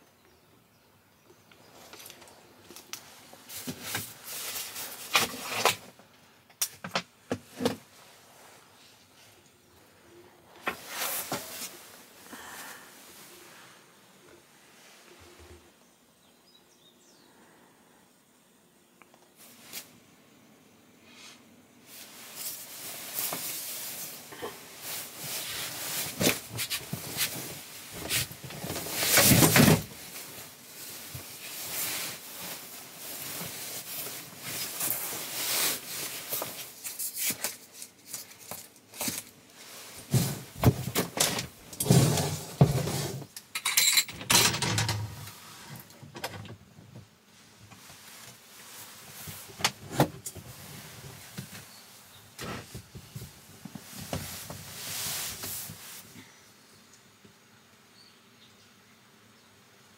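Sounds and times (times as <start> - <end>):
rustling: 1.3 - 6.4, 7.3 - 16.0, 21.2 - 46.4, 47.3 - 56.4.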